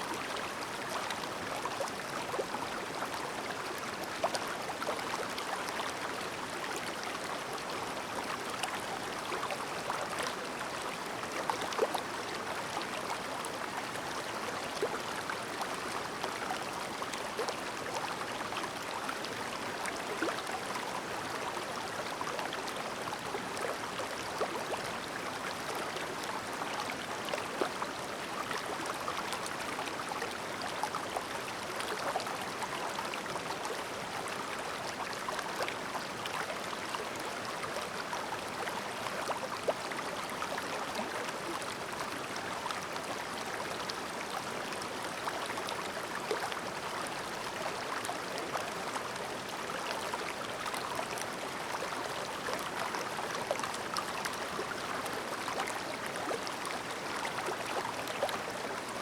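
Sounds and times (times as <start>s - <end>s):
stream babbling over stones: 0.1s - 59.0s.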